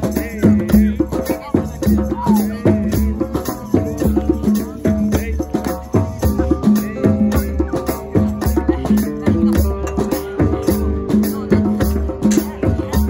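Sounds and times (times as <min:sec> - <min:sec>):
shakers rattling: 0:00.0 - 0:12.8
hand drums playing groove: 0:00.0 - 0:13.0
person calling or singing: 0:00.0 - 0:13.0.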